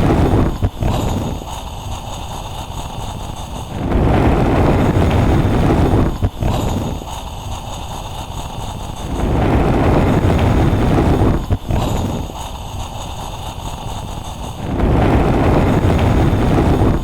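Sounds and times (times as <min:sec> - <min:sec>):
burner low rumble: 0:00.0 - 0:17.0
gas burner flame blast: 0:00.0 - 0:17.0.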